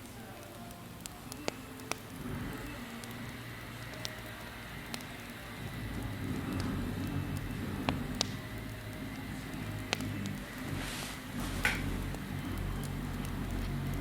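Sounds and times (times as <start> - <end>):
burning wood crackling pops: 0.0 - 14.0
campfire flames rushing: 0.0 - 14.0.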